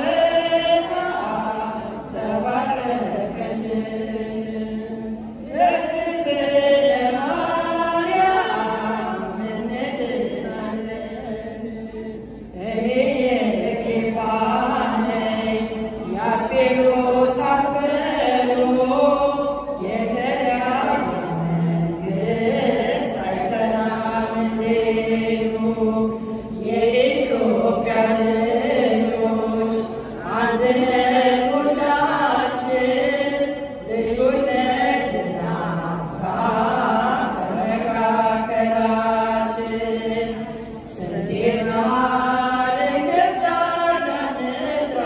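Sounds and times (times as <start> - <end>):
women's choir singing a hymn: 0.0 - 45.0.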